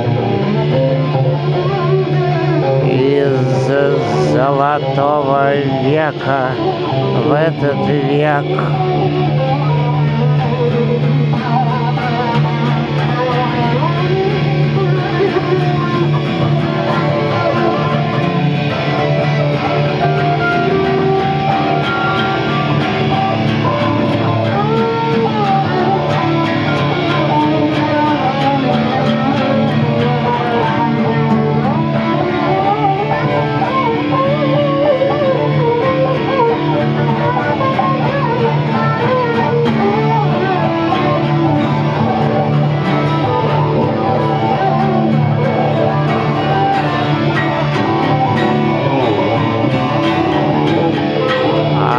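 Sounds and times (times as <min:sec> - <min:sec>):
electric guitar lead melody: 0:00.0 - 0:51.9
strummed acoustic guitar: 0:00.0 - 0:51.9.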